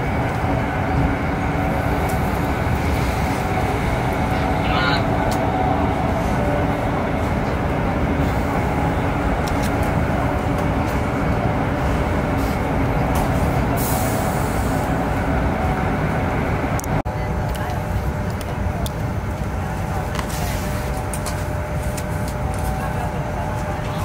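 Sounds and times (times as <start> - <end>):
train rumbling inside passenger car: 0.0 - 24.0.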